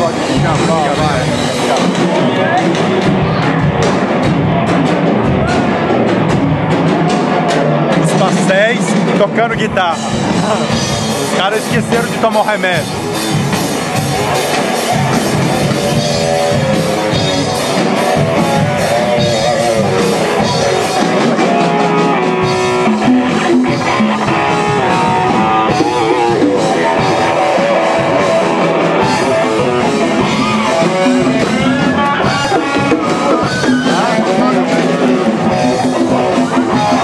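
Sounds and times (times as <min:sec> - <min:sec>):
drums: 0:00.0 - 0:37.0
electric guitar: 0:00.0 - 0:37.0.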